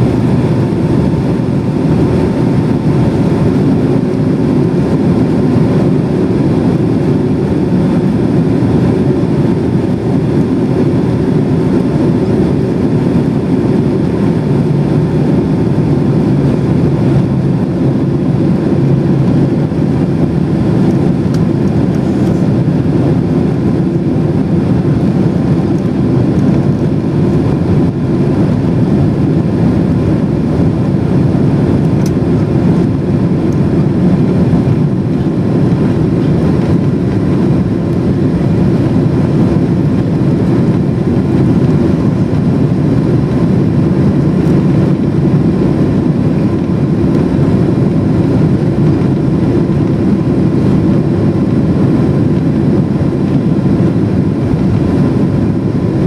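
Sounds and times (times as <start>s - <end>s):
engine roar and rushing air: 0.0s - 56.0s.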